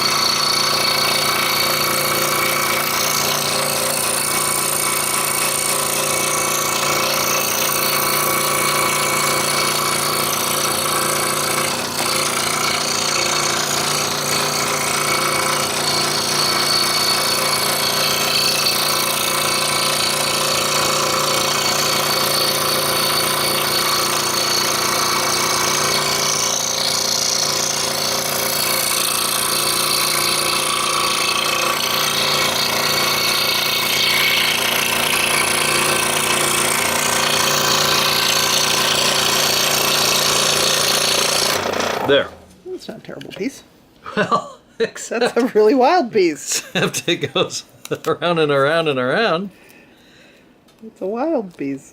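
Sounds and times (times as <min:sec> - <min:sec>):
scroll saw blade chatter: 0:00.0 - 0:42.4
motor hum: 0:00.0 - 0:42.6.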